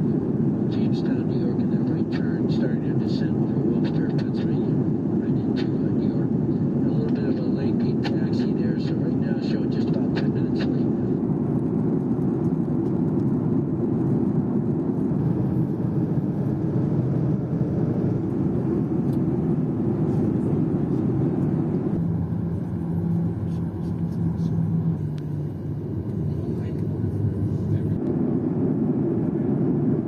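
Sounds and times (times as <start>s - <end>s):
airplane cabin engine noise: 0.0s - 30.0s
steady low hum: 0.0s - 30.0s.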